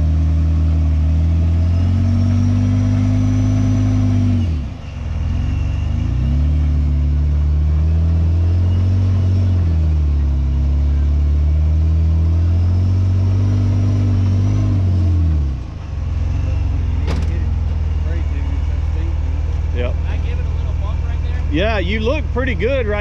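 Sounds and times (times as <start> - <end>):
engine revving under load: 0.0 - 23.0.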